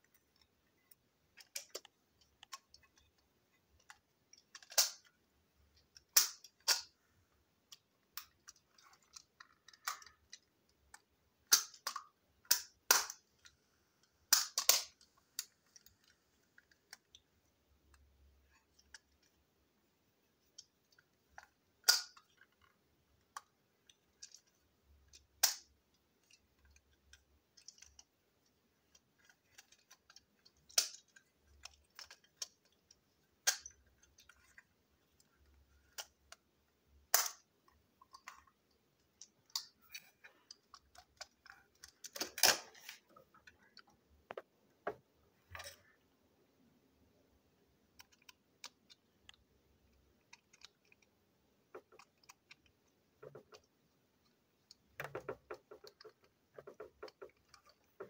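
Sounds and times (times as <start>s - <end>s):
plastic toy parts clicking: 0.0s - 7.0s, 7.6s - 17.2s, 20.5s - 44.4s, 47.9s - 58.0s.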